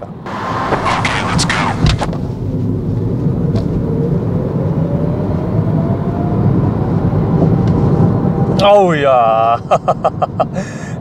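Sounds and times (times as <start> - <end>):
tyre and road rumble: 0.0 - 9.5.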